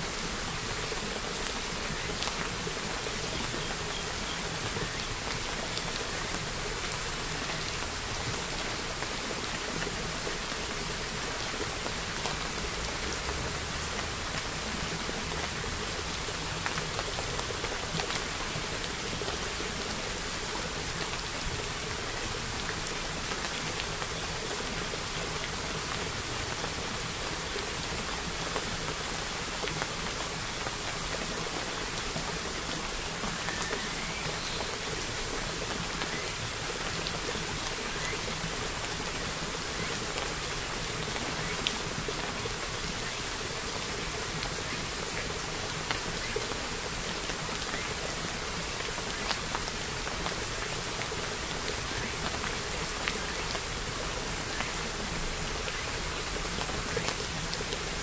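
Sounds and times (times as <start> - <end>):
steady rain-like hiss: 0.0 - 58.0.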